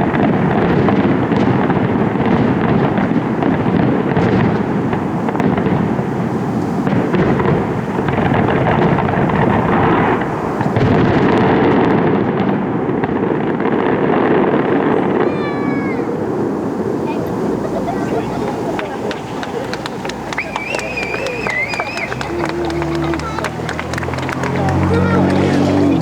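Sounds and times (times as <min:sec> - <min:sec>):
fireworks bursts and crackles: 0:00.0 - 0:26.0.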